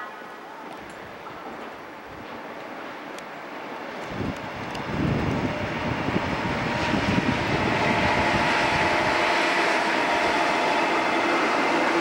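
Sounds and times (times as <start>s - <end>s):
steady train whine: 0.0s - 12.0s
train wheels rumbling on rails: 0.7s - 12.0s.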